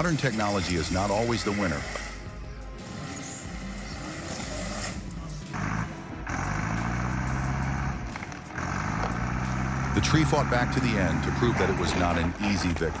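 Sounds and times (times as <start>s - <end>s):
engine running and revving: 0.0s - 13.0s.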